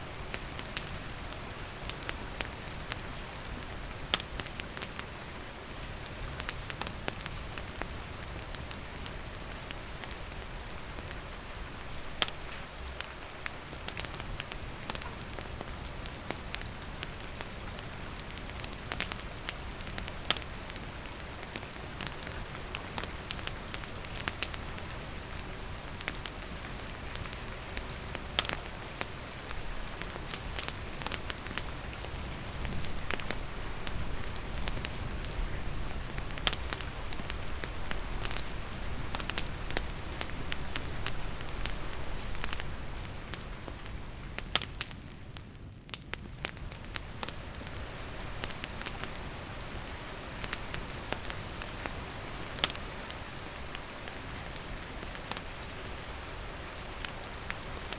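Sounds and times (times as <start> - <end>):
campfire crackling: 0.0 - 57.9
rain falling: 0.0 - 57.9.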